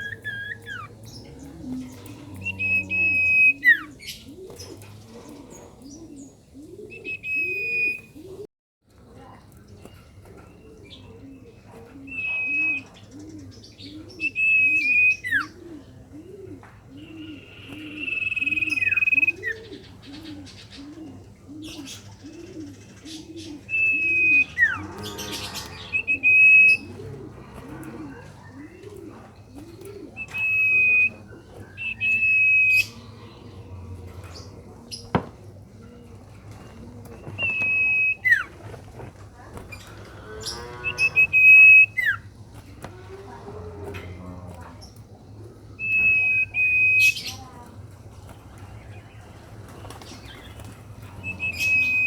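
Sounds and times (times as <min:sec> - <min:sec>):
low cooing notes: 0:00.0 - 0:08.5, 0:10.3 - 0:47.9, 0:49.4 - 0:52.0.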